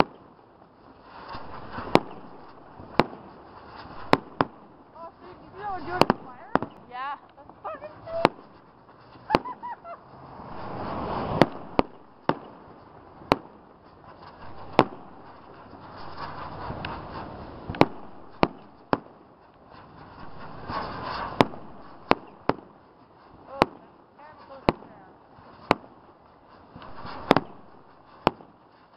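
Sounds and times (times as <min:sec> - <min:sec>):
fireworks bursting with bangs: 0:00.0 - 0:28.9
fireworks hiss: 0:00.0 - 0:28.9.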